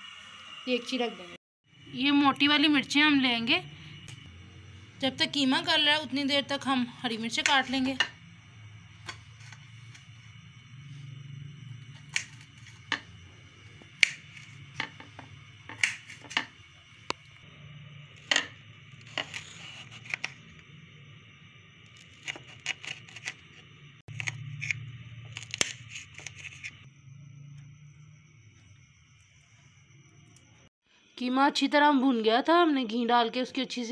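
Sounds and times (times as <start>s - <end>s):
steady low hum: 0.0s - 30.7s.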